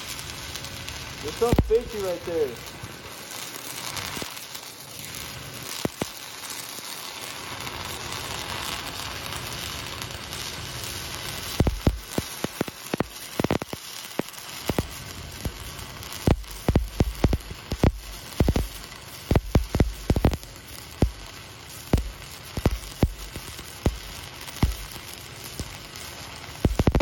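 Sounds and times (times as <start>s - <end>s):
welding arc hissing: 0.0s - 27.0s
welding arc pops and cracks: 0.0s - 27.0s.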